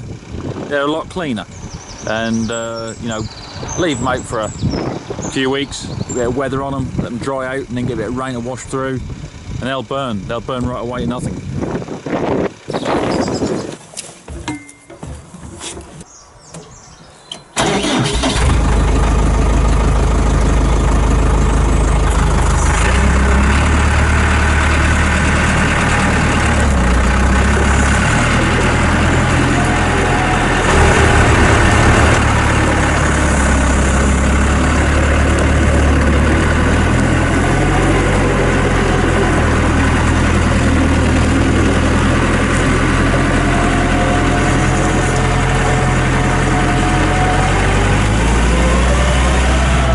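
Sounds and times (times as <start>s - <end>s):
excavator diesel engine running: 0.0s - 13.6s, 17.6s - 49.9s.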